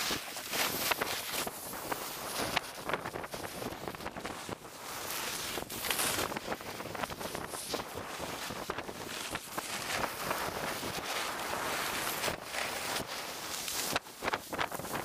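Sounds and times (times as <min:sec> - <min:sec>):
skis scraping on packed snow: 0:00.0 - 0:15.0
wind rushing over microphone: 0:00.0 - 0:15.0.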